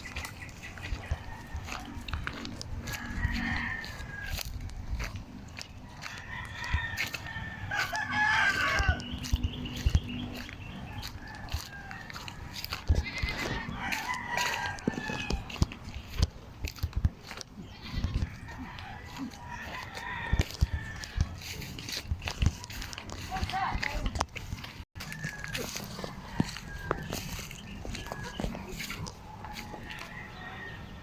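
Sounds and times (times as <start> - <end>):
farmyard animal calls: 0.0 - 31.0.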